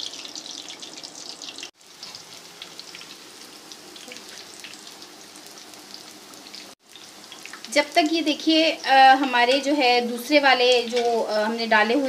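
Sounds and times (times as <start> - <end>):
pakoras deep-frying in oil: 0.0 - 12.0.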